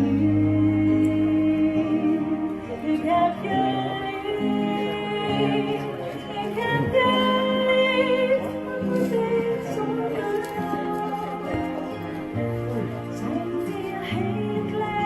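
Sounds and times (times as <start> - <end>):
guitar: 0.0 - 15.0
person singing long notes: 0.0 - 15.0.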